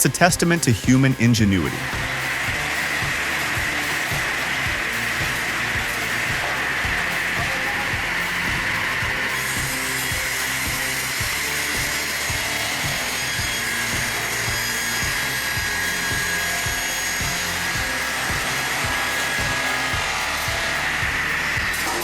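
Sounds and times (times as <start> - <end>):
background music with steady beat: 0.0 - 22.0
machine whirring: 0.0 - 22.0.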